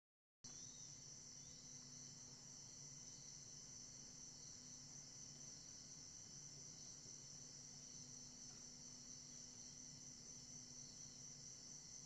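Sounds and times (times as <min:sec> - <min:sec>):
insects chirring: 0:00.5 - 0:12.0.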